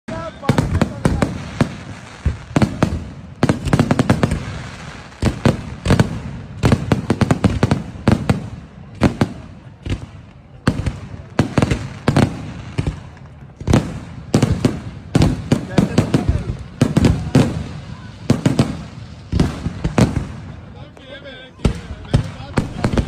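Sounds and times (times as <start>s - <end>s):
fireworks cracking and banging: 0.1s - 23.0s.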